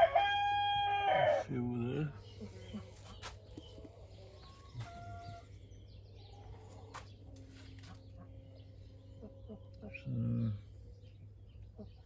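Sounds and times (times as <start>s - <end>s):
low steady hum: 1.5s - 12.0s
faint bird calls: 2.1s - 12.0s.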